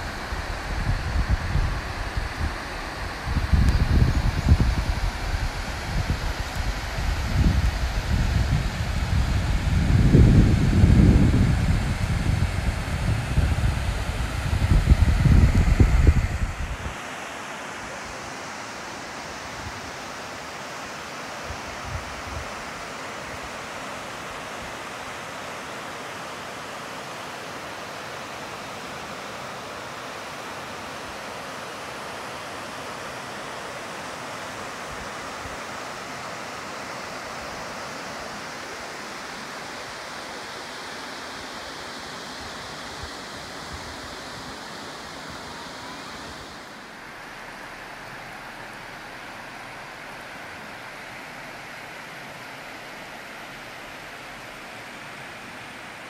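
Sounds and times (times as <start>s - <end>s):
waterfall and rapids roaring: 0.0s - 56.0s.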